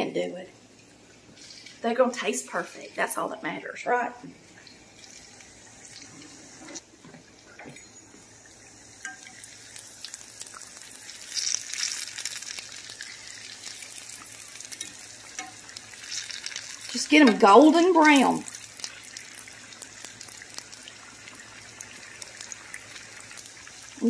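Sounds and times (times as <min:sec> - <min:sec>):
pies sizzling in hot oil: 0:00.1 - 0:24.0.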